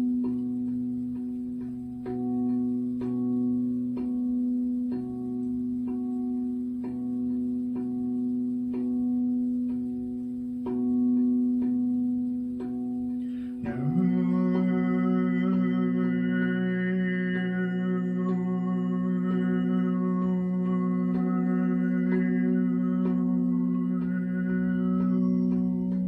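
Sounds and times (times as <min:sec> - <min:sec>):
person humming low note: 0:00.0 - 0:26.0
singing bowl ringing: 0:00.0 - 0:26.0
soft tuned notes struck: 0:00.0 - 0:26.0.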